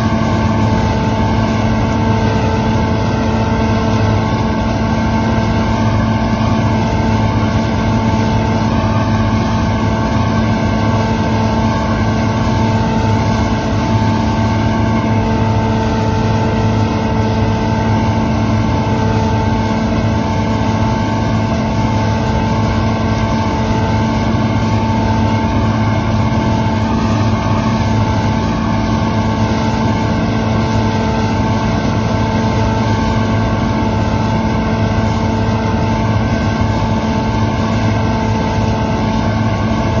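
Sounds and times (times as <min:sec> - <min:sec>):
combine harvester drone: 0:00.0 - 0:40.0.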